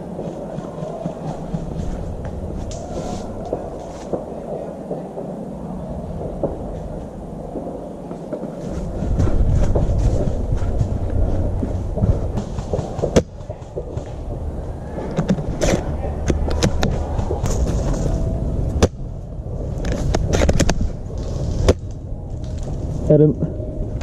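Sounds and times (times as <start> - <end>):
low microphone rumble: 0.0 - 24.0.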